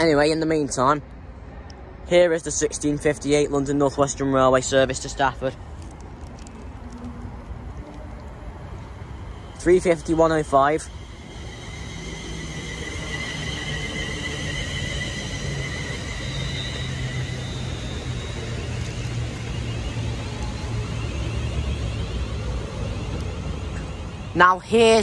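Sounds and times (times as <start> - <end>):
low train rumble: 0.0 - 25.0
electric train whine: 1.1 - 25.0.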